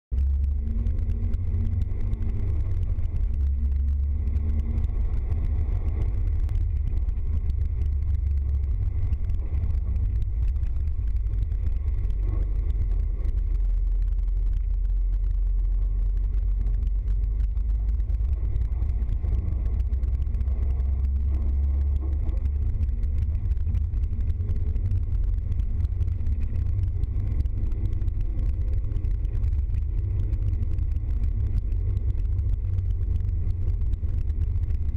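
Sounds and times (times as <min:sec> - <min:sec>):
vehicle engine drone: 0:00.0 - 0:34.9.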